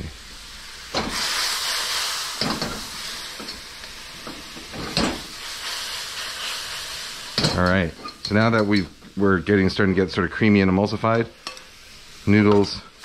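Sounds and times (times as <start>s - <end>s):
sauce sizzling and bubbling in a wok: 0.0s - 13.0s.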